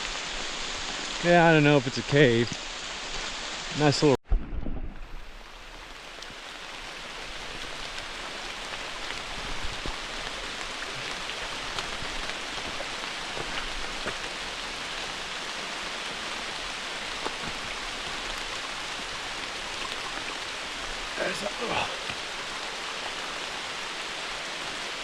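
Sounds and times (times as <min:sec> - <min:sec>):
steady rain: 0:00.0 - 0:04.2, 0:05.0 - 0:25.0.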